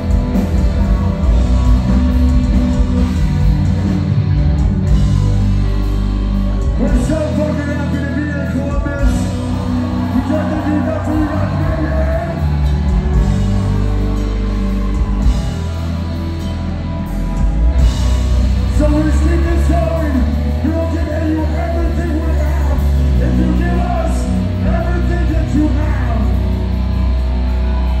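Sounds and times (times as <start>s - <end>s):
metalcore band playing live: 0.0s - 28.0s.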